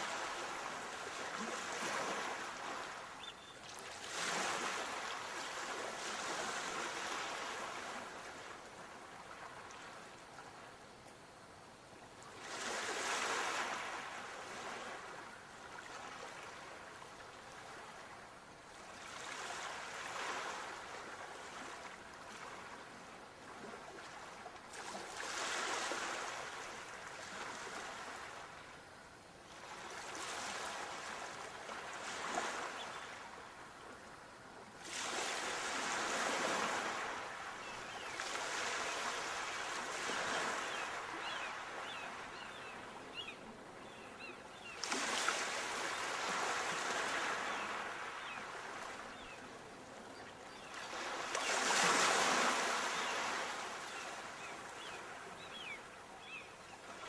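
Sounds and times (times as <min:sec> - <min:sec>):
sea waves washing ashore: 0:00.0 - 0:10.7, 0:12.2 - 0:28.9, 0:29.5 - 0:44.0, 0:44.6 - 0:49.9, 0:50.6 - 0:57.0.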